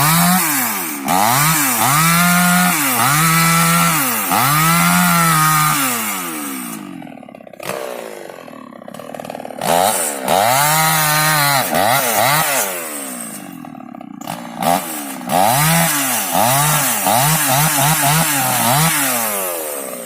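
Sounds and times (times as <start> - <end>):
chainsaw revving while cutting wood: 0.0 - 20.0.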